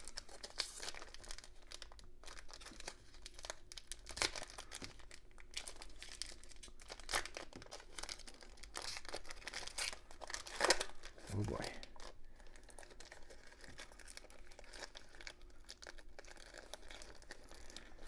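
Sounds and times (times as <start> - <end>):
foil wrapper crinkling and tearing: 0.0 - 18.0.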